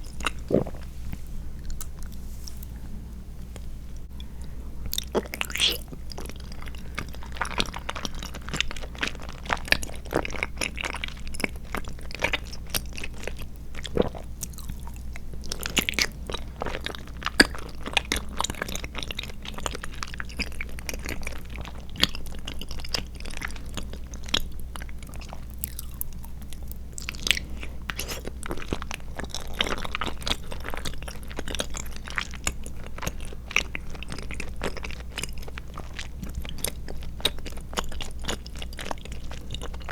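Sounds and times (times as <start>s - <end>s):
chewing squishy food: 0.0s - 2.8s, 3.4s - 39.9s.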